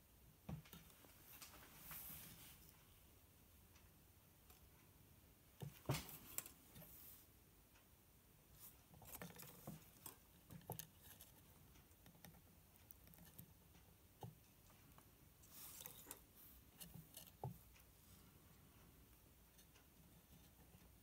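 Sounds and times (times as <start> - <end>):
soft hiss: 0.0 - 12.0, 13.7 - 21.0.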